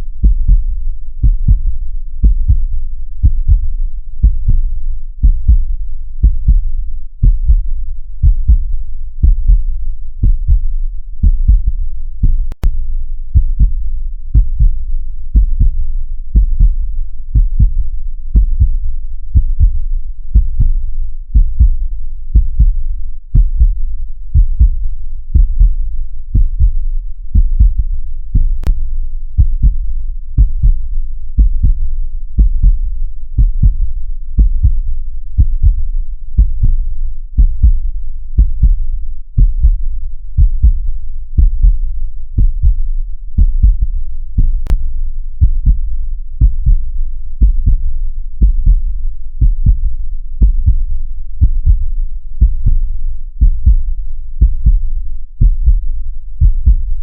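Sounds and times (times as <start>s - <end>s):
heartbeat thumps: 0.2s - 28.8s, 29.4s - 30.8s, 31.4s - 31.8s, 32.4s - 34.8s, 35.4s - 44.8s, 45.4s - 57.0s.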